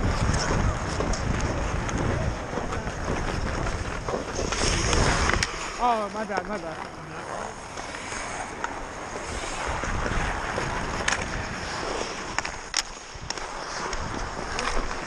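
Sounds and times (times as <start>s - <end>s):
wind on microphone: 0.0s - 6.0s, 7.5s - 15.0s
skates scraping on ice: 0.0s - 15.0s
hockey sticks and puck clacking: 0.1s - 15.0s.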